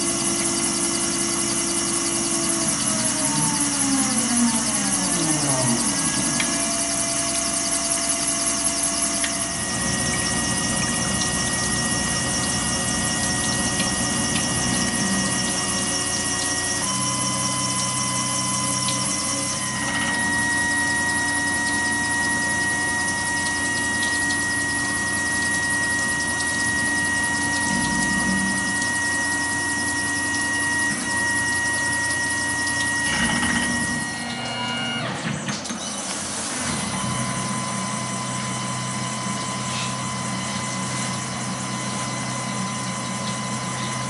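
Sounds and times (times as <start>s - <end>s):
milling machine whine: 0.0s - 44.0s.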